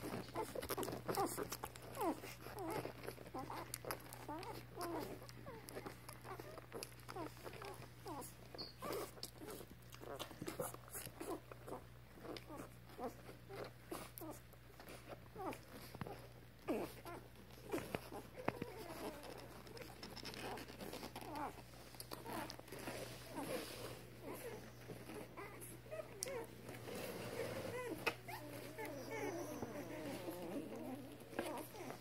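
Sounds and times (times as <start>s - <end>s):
puppies squeaking and grunting: 0.0s - 32.0s.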